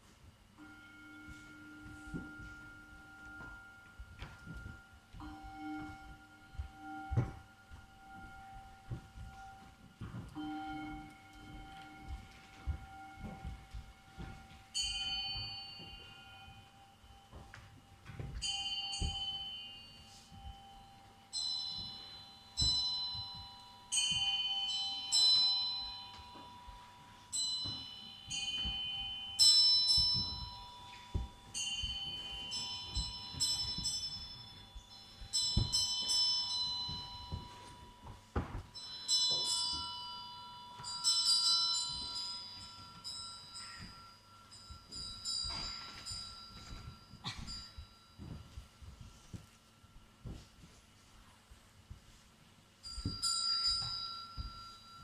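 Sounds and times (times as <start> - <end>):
low ringing tones: 0.0 - 55.0
soft low thuds: 0.3 - 24.5, 25.4 - 40.2, 40.8 - 55.0
metal bells struck: 0.6 - 50.8, 52.8 - 55.0.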